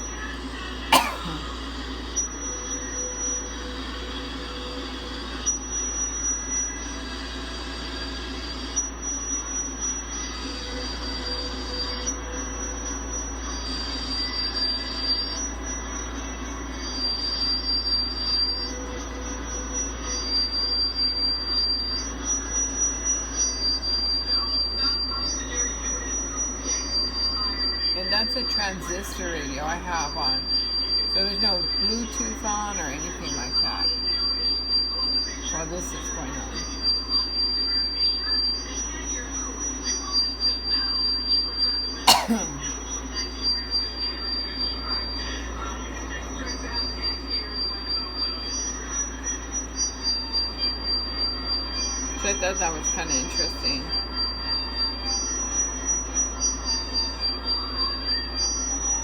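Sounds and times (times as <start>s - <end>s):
alternating high-pitched tones: 0.0s - 59.0s
faint radio voices: 0.0s - 59.0s
high-pitched whine: 0.0s - 59.0s.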